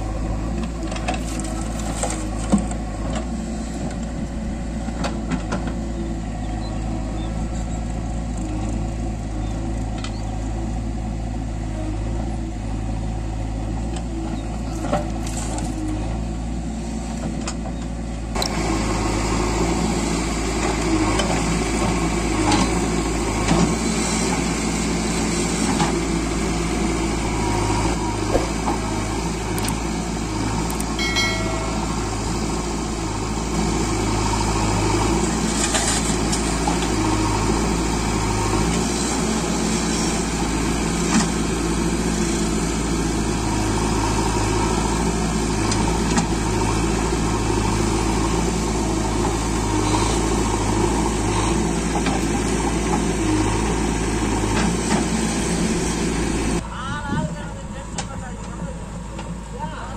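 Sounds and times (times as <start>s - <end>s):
backhoe digging soil: 0.0s - 56.6s
diesel engines running: 0.0s - 59.9s.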